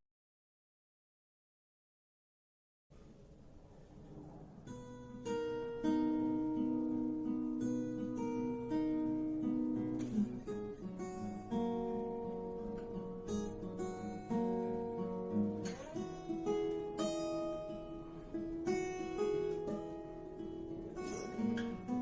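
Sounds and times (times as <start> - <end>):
acoustic guitar chords: 3.2 - 22.0.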